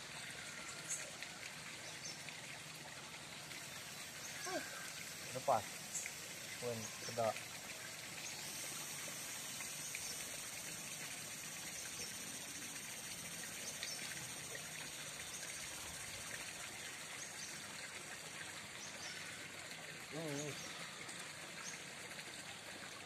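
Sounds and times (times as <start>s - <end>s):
trickling water hiss: 0.0s - 23.0s.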